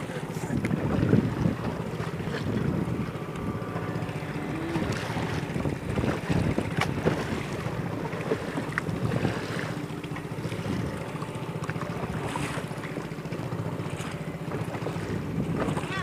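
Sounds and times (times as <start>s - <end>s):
choppy water splashing: 0.0s - 16.0s
paddle strokes splashing: 0.0s - 16.0s
wind buffeting microphone: 0.0s - 16.0s.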